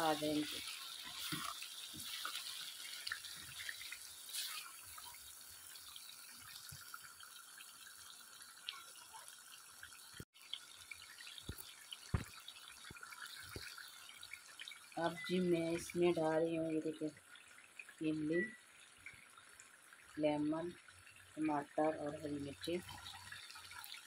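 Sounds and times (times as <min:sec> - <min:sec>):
chicken frying in a wok: 0:00.0 - 0:24.0.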